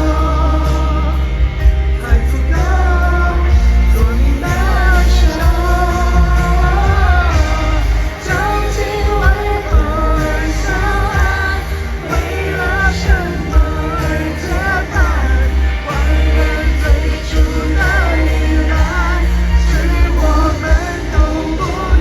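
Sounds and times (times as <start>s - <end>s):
band with heavy bass: 0.0s - 22.0s
woman singing: 0.0s - 22.0s.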